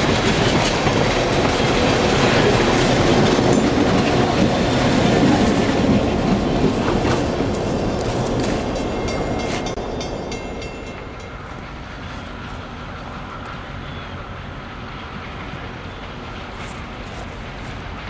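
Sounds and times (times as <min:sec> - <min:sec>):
train rumble: 0:00.0 - 0:18.0
train wheels clicking over rails: 0:00.0 - 0:18.0.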